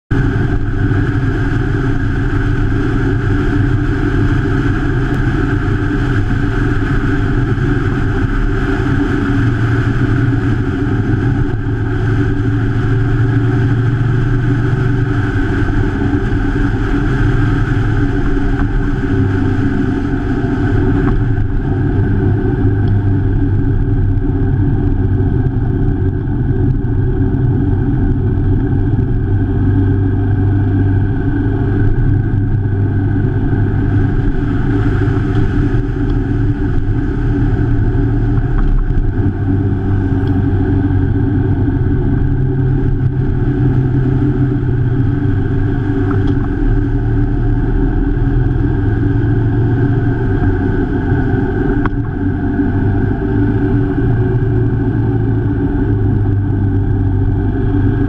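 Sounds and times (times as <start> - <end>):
motorcycle engine running: 0.1 - 58.0
road noise: 0.1 - 58.0.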